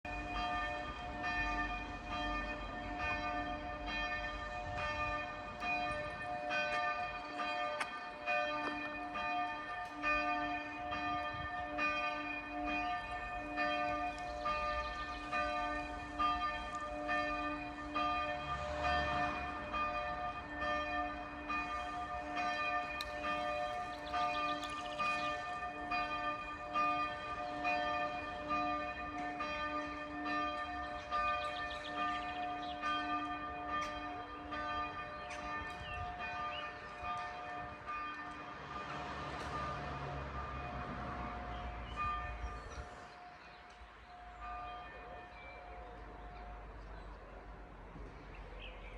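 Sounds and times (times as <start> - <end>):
church bells ringing: 0.0 - 48.9.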